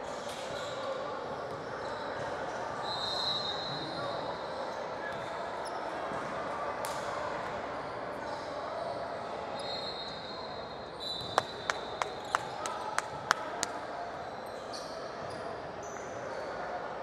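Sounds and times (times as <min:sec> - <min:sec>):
murmur of voices: 0:00.0 - 0:17.0.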